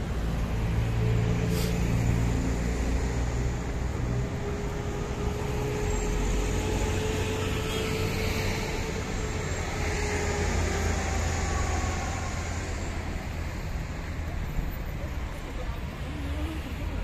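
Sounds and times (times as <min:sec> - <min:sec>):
road traffic passing: 0:00.0 - 0:17.0
vehicle hum: 0:00.0 - 0:17.0.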